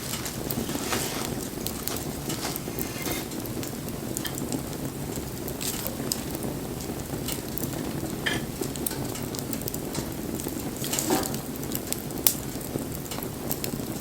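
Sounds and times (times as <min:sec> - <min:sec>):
fire flames burning: 0:00.0 - 0:14.0
wood crackling and popping: 0:00.0 - 0:14.0.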